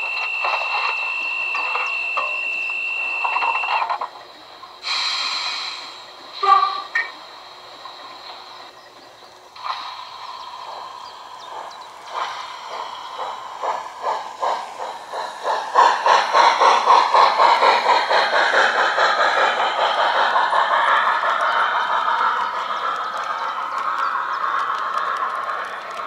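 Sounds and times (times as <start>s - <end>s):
model train running: 0.0s - 26.0s.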